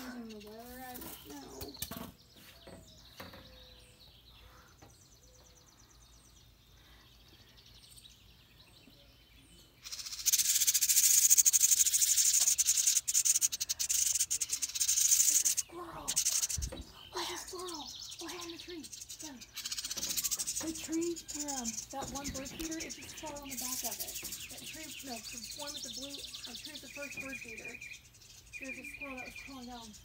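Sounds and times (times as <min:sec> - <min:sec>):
faint bird chirps: 0:00.0 - 0:30.0
nestlings begging chorus: 0:00.0 - 0:30.0.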